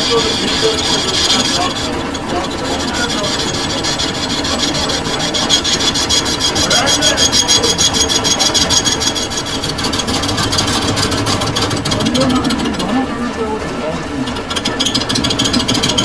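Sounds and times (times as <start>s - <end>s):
metal lathe cutting: 0.0s - 16.0s.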